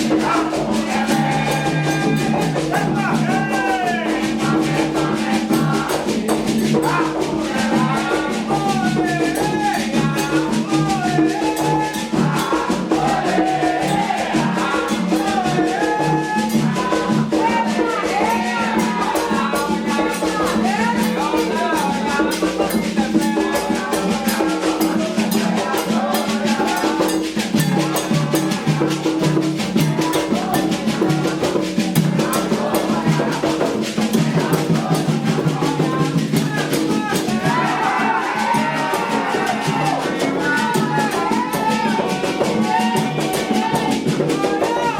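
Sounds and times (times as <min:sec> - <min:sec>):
hand drums and percussion: 0:00.0 - 0:44.9
voices chanting: 0:00.0 - 0:44.9.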